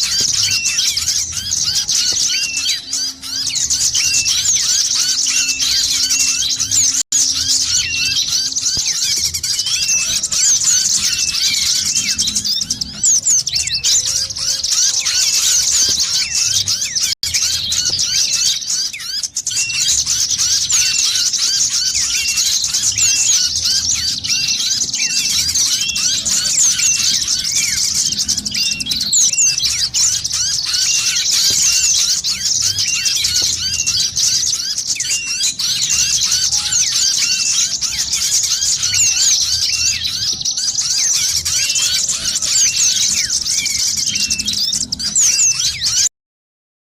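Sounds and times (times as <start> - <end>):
small birds chirping rapidly: 0.0 - 46.1.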